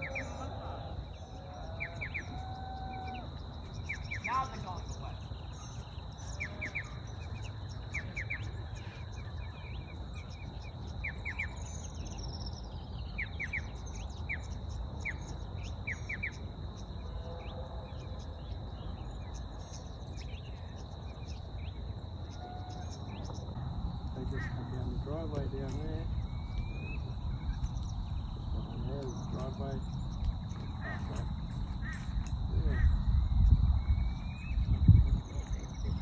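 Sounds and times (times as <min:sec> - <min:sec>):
birds chirping: 0:00.0 - 0:36.0
high insect hum: 0:00.0 - 0:36.0.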